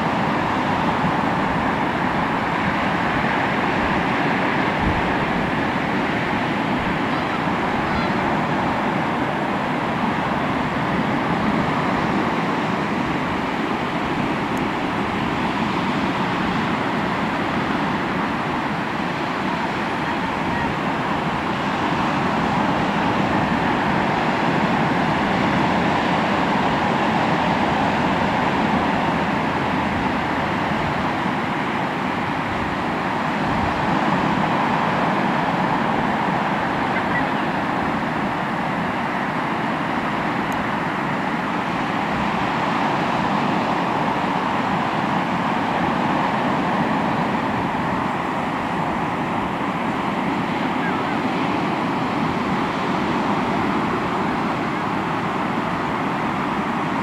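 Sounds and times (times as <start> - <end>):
sea surf washing onto shore: 0.0 - 57.0.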